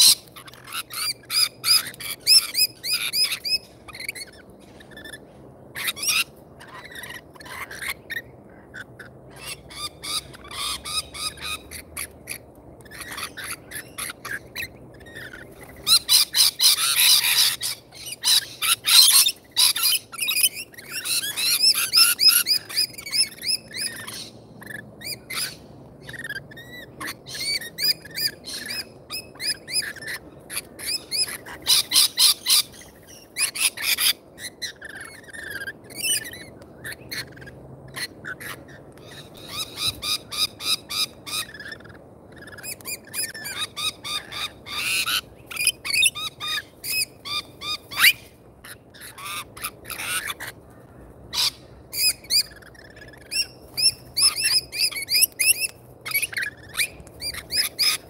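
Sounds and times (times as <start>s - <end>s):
parrots squawking harshly: 0.0s - 50.6s, 51.3s - 58.0s
parrots chattering and screeching: 0.0s - 58.0s.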